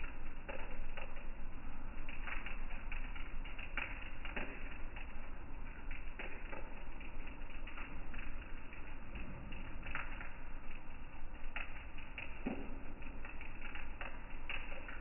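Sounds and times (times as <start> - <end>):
rain falling on water: 0.0 - 15.0.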